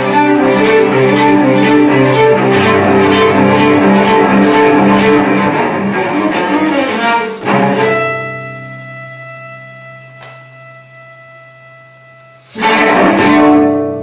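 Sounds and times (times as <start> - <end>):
cello playing fast passage: 0.0 - 11.2, 12.3 - 14.0
low cello note ringing: 0.0 - 14.0.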